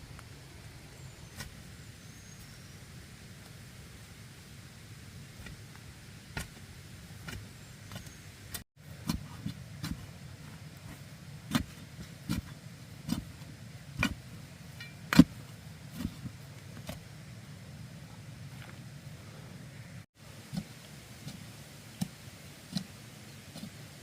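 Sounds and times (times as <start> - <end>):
steady low background noise: 0.0 - 24.0.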